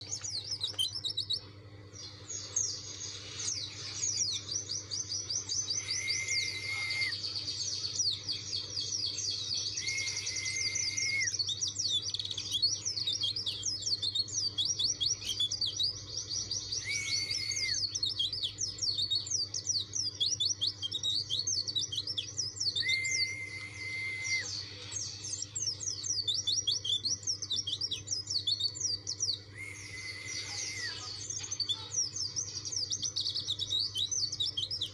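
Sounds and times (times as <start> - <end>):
level bird whistle: 0.0 - 34.9.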